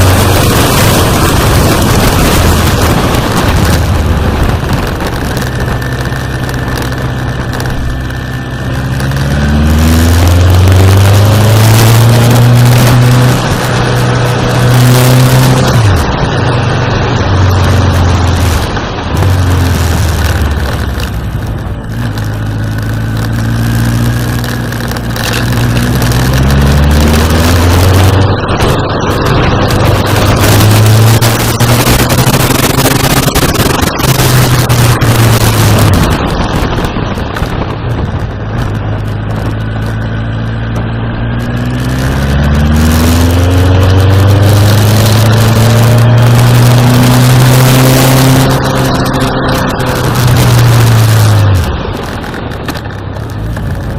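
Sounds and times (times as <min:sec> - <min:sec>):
motorcycle engine accelerating: 0:00.0 - 0:53.9
rushing wind: 0:00.0 - 0:53.9.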